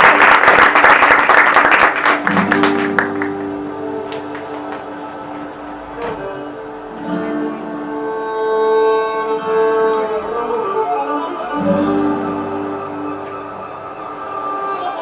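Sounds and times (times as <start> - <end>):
held string notes: 2.2 - 15.0.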